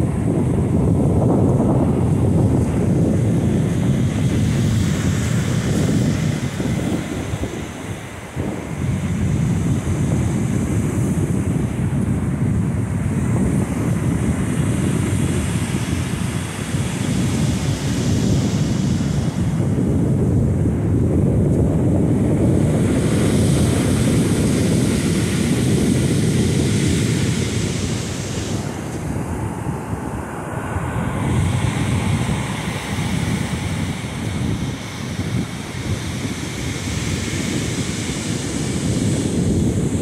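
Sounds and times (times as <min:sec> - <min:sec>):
surf breaking on beach: 0:00.0 - 0:40.0
wind buffeting microphone: 0:00.0 - 0:40.0.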